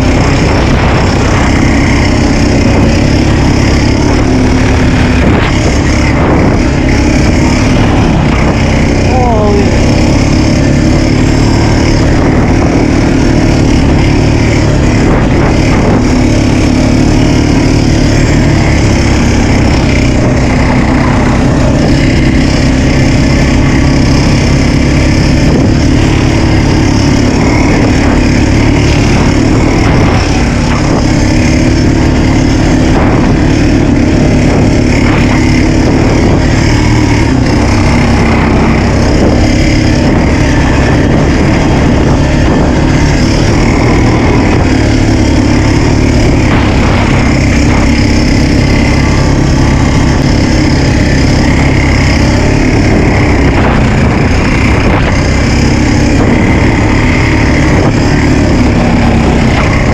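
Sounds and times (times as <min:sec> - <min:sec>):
off-road vehicle engine droning: 0:00.0 - 0:59.9.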